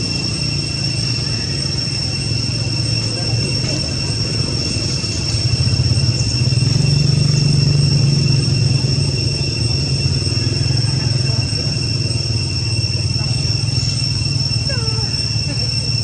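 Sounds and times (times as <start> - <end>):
high-pitched whine: 0.0 - 16.0
low engine drone: 0.0 - 16.0.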